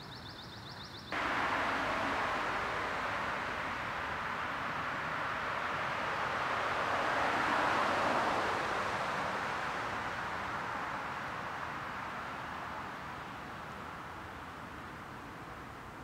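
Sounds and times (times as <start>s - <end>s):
vehicle passing on road: 1.1s - 16.0s.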